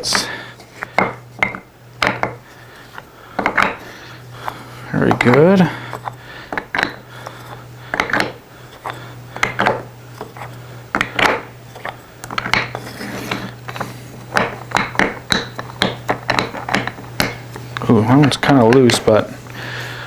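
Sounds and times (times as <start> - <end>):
sockets scraping into wood: 0.0 - 20.0
steady low hum: 0.0 - 20.0.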